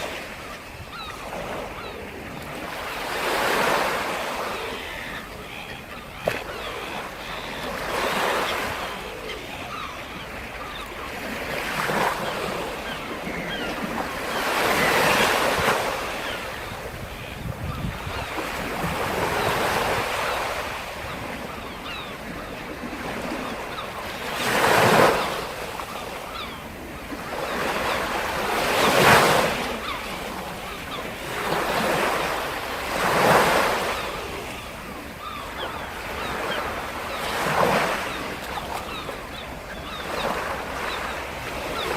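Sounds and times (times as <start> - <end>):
waves breaking on shore: 0.0 - 41.9.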